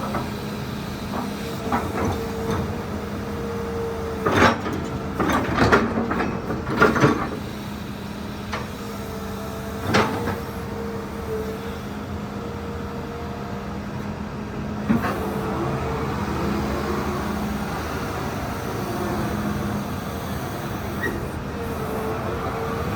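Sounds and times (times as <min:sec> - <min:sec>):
excavator diesel engine humming: 0:00.0 - 0:22.9.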